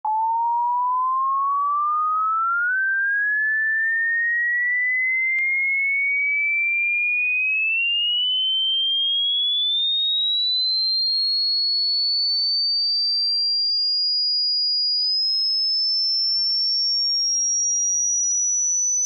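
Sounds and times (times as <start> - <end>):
sine tone sweeping upward: 0.1 - 6.3, 7.0 - 11.1, 13.6 - 19.0.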